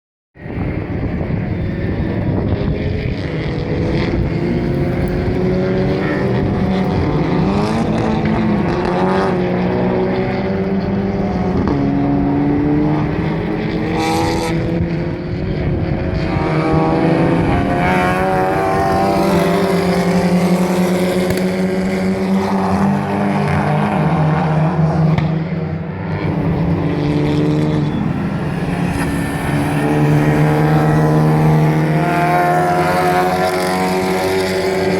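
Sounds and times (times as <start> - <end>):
racing car engines: 0.4 - 34.9.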